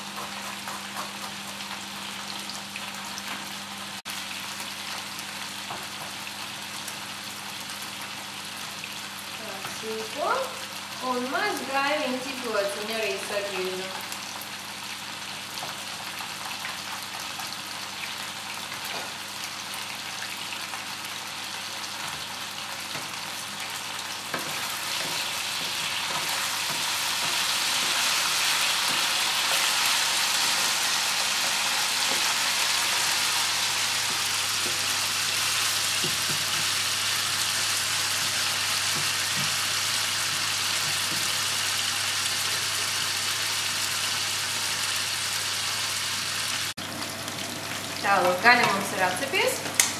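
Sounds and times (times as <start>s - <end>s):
meat sizzling in oil: 0.0s - 49.9s.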